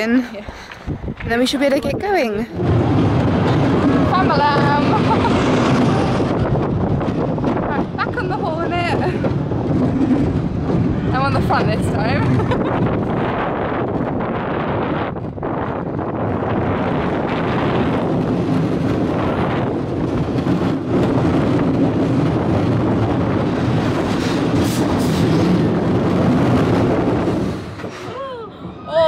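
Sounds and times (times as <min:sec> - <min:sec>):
roller coaster rumbling on track: 0:00.0 - 0:29.0
wind rushing over microphone: 0:00.0 - 0:29.0.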